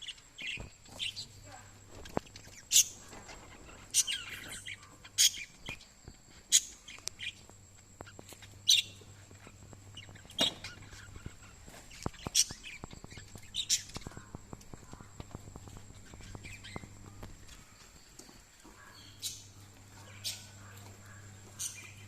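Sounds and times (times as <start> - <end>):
parrots chirping: 0.0 - 22.0.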